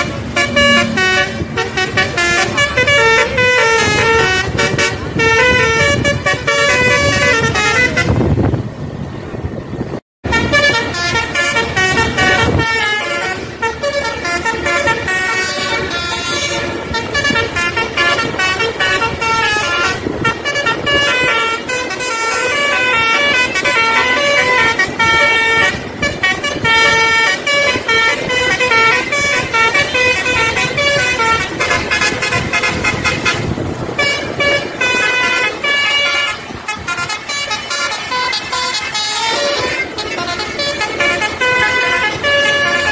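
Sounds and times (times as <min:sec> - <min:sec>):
multi-note bus horn tunes: 0:00.0 - 0:08.5, 0:10.2 - 0:42.9
engine and road noise: 0:00.0 - 0:42.9.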